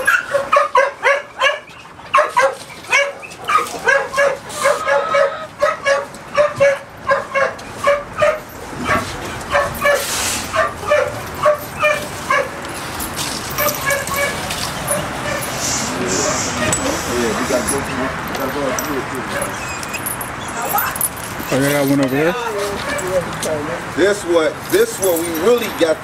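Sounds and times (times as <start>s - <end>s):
dogs barking: 0.0s - 21.6s, 22.8s - 23.3s.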